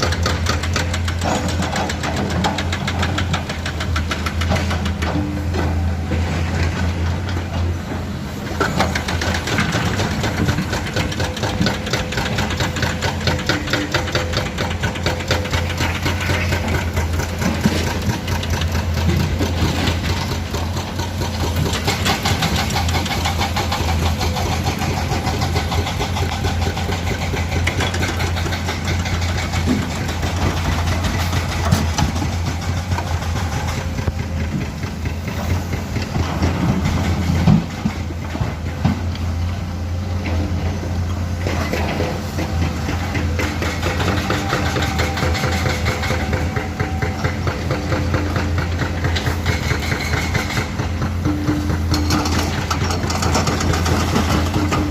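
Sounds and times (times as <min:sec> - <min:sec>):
excavator diesel engines running: 0:00.0 - 0:54.9.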